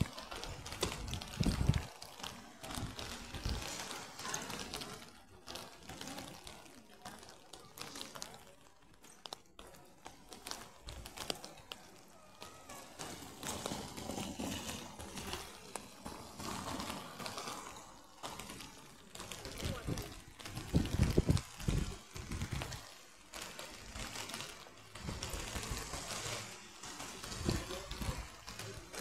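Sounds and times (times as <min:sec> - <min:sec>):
footsteps on wet paving: 0:00.0 - 0:29.0
street ambience: 0:00.0 - 0:29.0.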